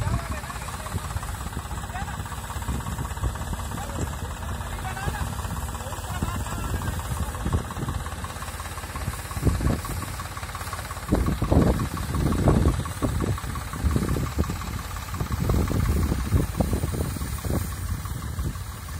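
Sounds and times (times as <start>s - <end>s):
engine running with surges: 0.0s - 18.9s.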